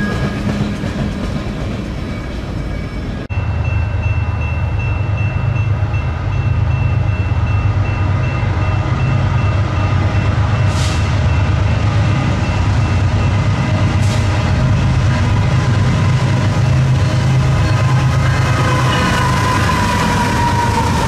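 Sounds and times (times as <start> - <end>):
crossing bell dinging: 0.0 - 1.2, 1.8 - 14.6, 16.0 - 20.8
diesel locomotive engine rumble: 0.0 - 21.0.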